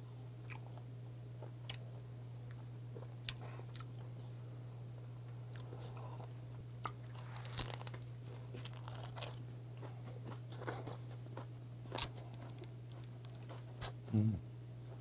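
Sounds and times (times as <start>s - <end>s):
steady low hum: 0.0s - 15.0s
chewing crunches: 0.4s - 4.1s, 5.5s - 14.0s.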